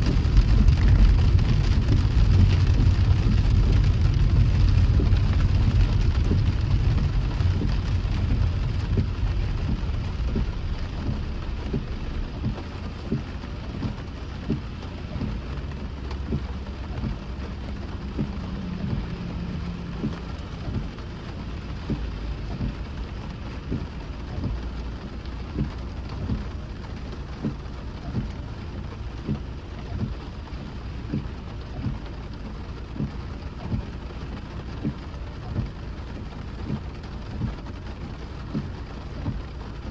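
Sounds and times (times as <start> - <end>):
car rumbling on wet road: 0.0 - 39.9
rain drops tapping on a car: 0.0 - 39.9.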